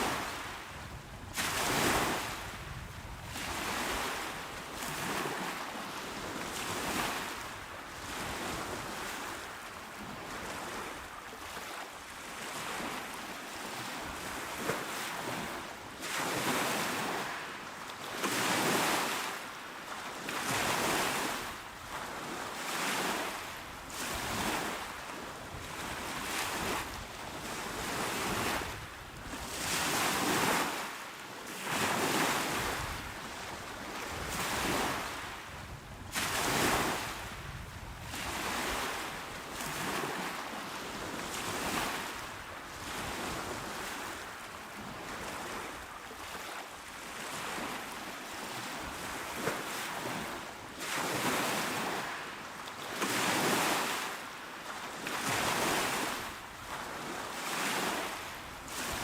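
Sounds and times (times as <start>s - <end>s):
small waves washing onto shore: 0.0s - 59.0s.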